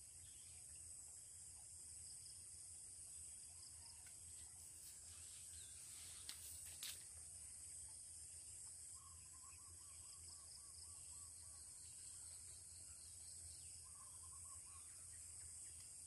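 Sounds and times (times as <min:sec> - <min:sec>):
faint high-pitched insect chirring: 0:00.0 - 0:16.0.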